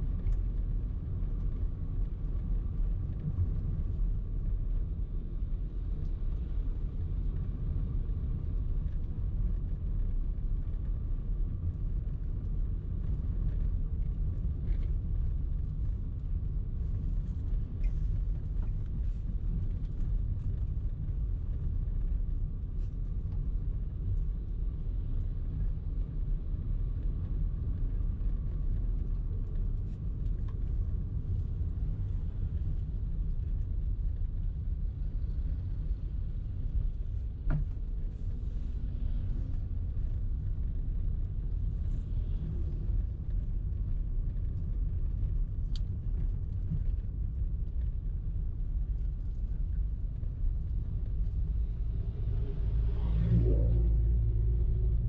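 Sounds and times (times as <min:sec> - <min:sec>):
car driving rumble: 0:00.0 - 0:55.0.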